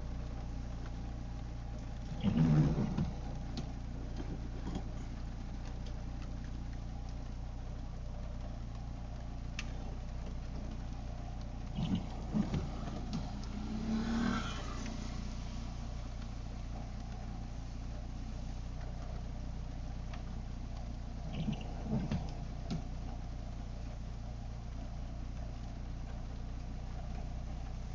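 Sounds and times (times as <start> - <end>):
car engine drone: 0.0 - 27.9
road and rain noise: 0.0 - 27.9.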